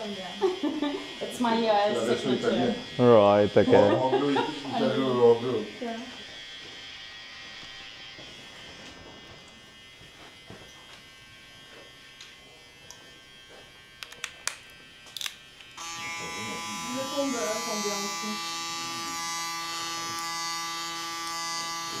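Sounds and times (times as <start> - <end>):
electric hair clipper buzzing: 0.0 - 22.0.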